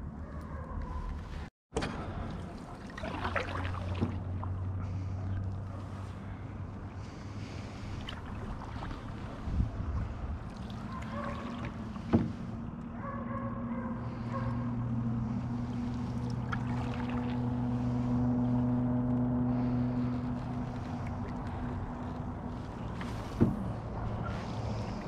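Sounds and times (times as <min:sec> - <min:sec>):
distant engine humming: 0:04.1 - 0:25.0.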